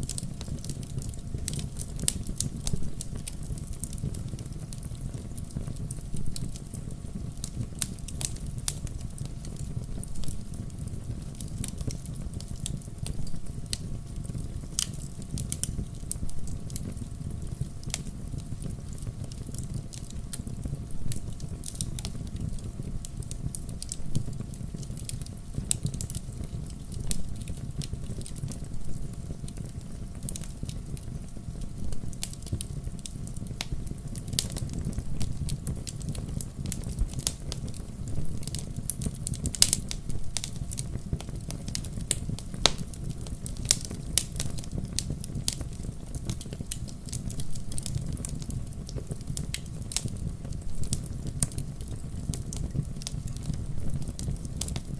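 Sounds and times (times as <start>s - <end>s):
fire crackling and snapping: 0.0s - 54.9s
fire flames rumbling: 0.0s - 54.9s.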